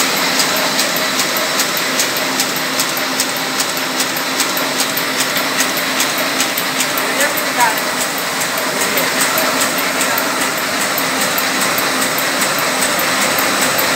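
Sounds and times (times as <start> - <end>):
printing press whirring and ticking: 0.0 - 13.9.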